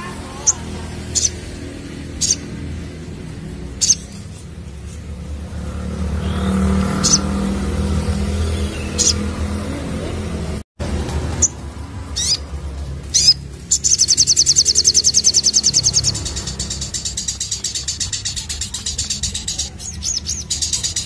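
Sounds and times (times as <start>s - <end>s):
bird giving sharp high chirps: 0.0s - 3.0s, 3.6s - 4.6s, 6.0s - 9.6s, 11.4s - 21.0s.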